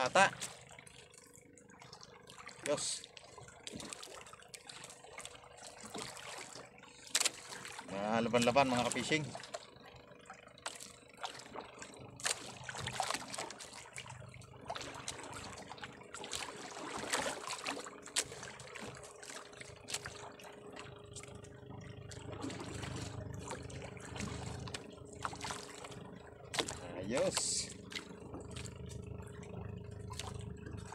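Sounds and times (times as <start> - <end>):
water lapping against a boat: 0.0 - 30.9.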